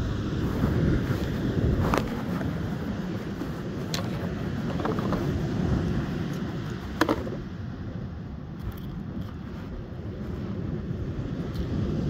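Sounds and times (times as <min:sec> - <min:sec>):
sea surf: 0:00.0 - 0:08.6, 0:09.4 - 0:12.0
wind buffeting microphone: 0:00.0 - 0:12.0.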